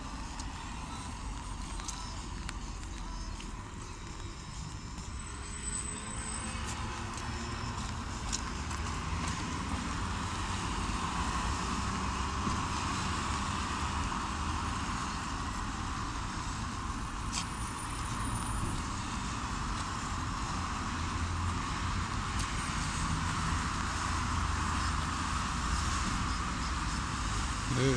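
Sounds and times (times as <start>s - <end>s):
cars passing on wet road: 0.0s - 27.9s.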